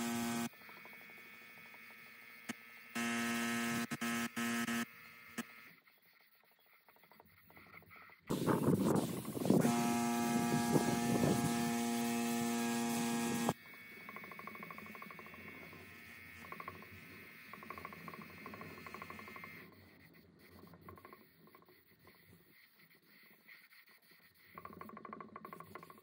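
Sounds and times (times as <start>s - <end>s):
small electric motor buzzing: 0.0s - 6.4s, 8.1s - 26.0s.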